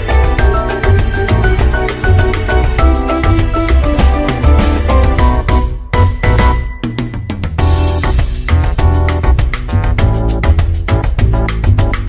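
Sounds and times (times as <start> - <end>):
steady drum beat: 0.0 - 12.0
strong bass line: 0.0 - 12.0.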